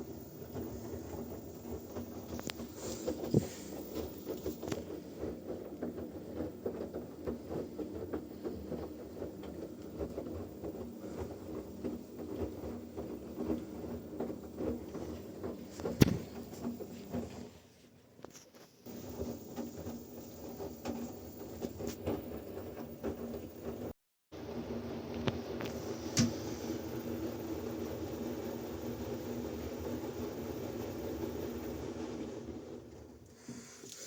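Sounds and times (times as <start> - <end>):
washing machine churning: 0.0 - 17.6, 18.9 - 34.0.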